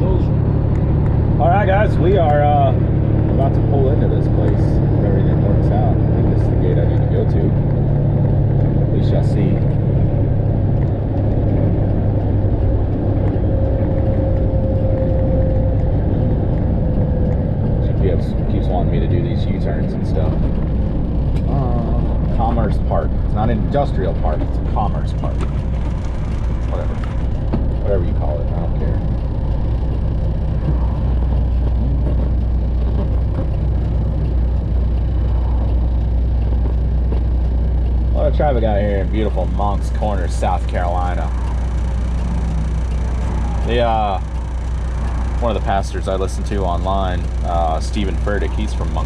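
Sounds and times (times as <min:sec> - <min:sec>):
diesel engine drone: 0:00.0 - 0:49.0
faint steady whine: 0:00.0 - 0:49.0.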